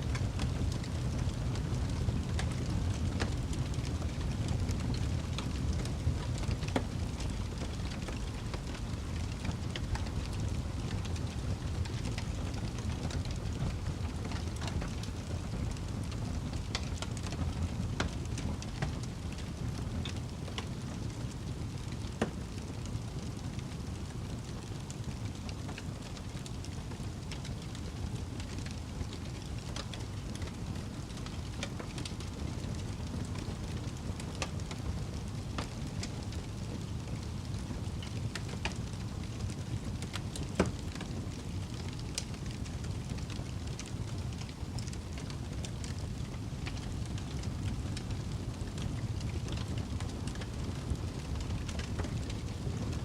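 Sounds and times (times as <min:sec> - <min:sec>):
fire crackling in fireplace: 0:00.0 - 0:53.0
low rumble of flames: 0:00.0 - 0:53.0.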